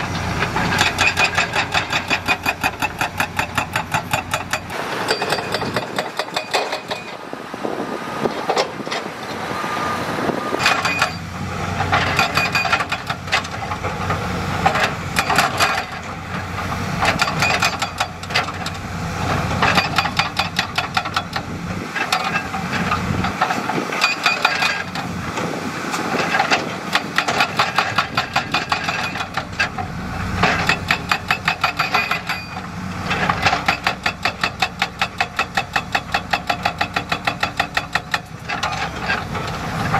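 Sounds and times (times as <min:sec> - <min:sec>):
diesel machinery engines running: 0:00.0 - 0:39.9.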